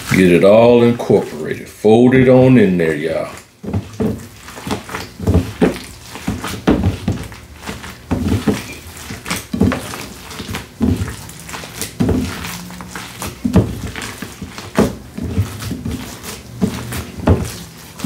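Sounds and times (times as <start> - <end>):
wet squishing of ground meat: 0.0 - 18.0.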